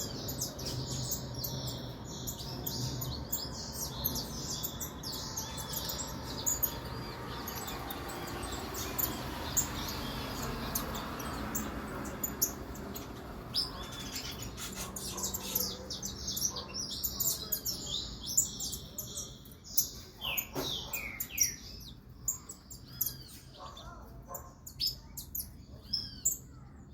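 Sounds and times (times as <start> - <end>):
finch chirping: 0.0 - 26.7.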